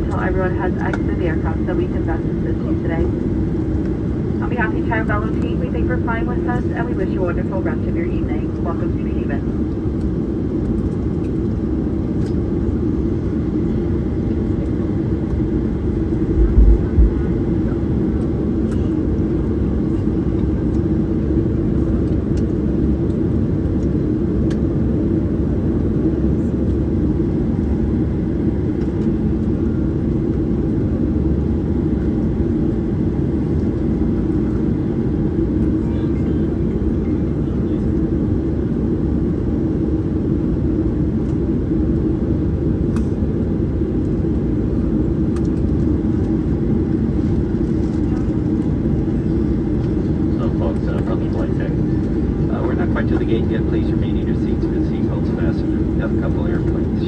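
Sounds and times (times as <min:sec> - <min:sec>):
airplane cabin noise taxiing: 0:00.0 - 0:57.0.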